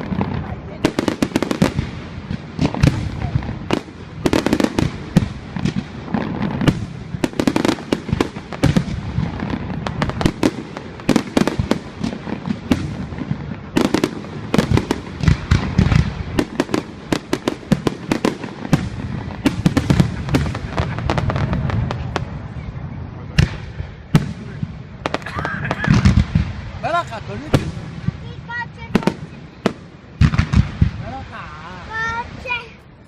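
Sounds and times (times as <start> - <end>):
low rumbling booms: 0.0 - 32.4
fireworks crackling and bangs: 0.0 - 33.0.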